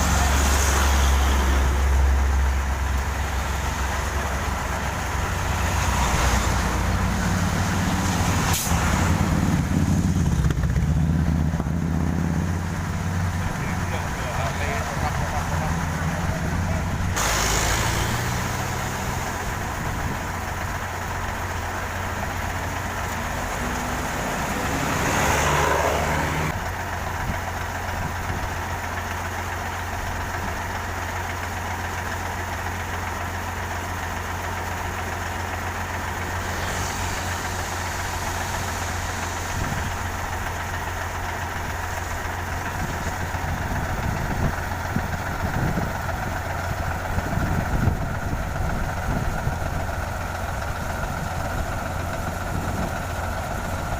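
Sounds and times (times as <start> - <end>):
heavy machinery engine running: 0.0 - 53.9.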